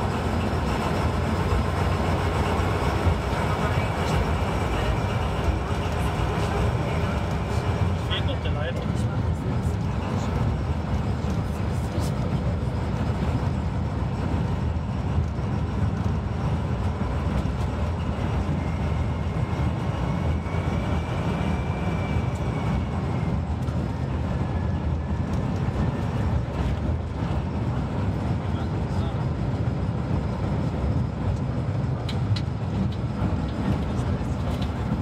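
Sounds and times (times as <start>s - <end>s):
locomotive engine drone: 0.0s - 35.0s
wheel and rail noise: 0.0s - 35.0s
wind: 0.0s - 35.0s.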